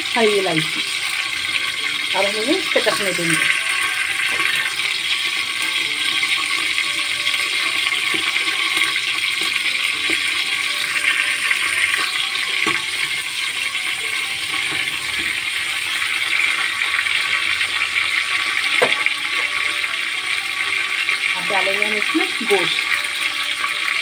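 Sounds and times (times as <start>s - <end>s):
spices sizzling in hot oil: 0.0s - 24.0s.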